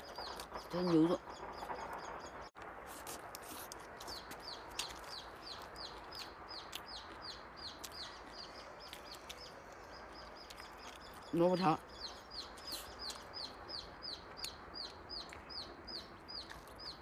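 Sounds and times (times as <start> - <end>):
chicks peeping: 3.0 - 17.0.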